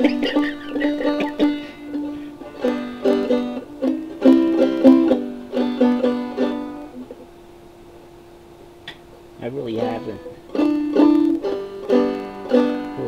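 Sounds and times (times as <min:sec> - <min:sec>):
banjo plucked notes: 0:00.0 - 0:07.3, 0:09.8 - 0:13.0.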